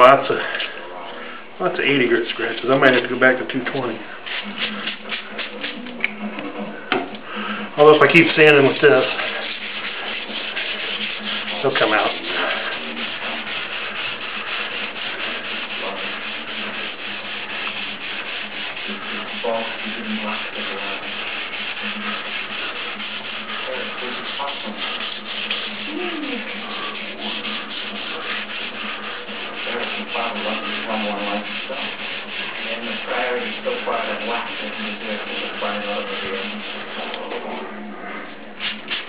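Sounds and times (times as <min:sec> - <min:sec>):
wet sandpaper rubbing: 0:02.4 - 0:05.9, 0:07.8 - 0:37.7, 0:38.6 - 0:39.0.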